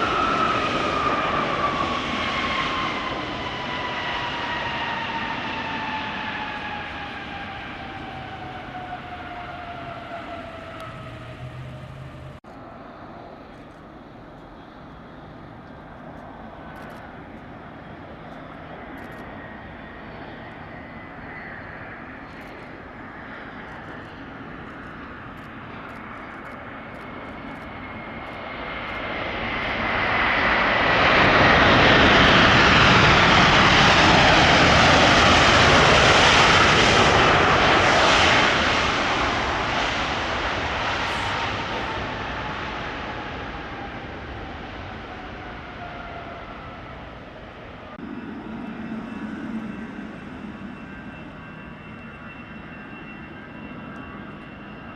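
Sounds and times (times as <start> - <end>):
jet airliner engines roaring: 0.0 - 54.9
jet engine whine falling in pitch: 0.0 - 54.9.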